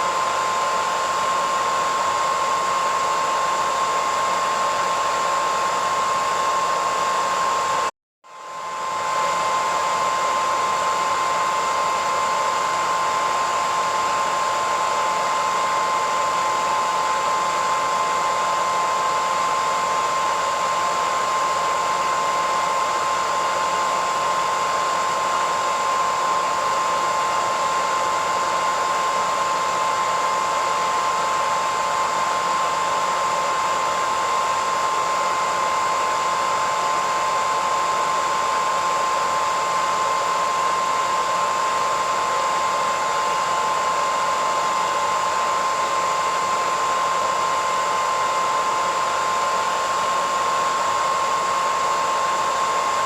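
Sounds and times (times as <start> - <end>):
hair dryer blowing: 0.0 - 53.0.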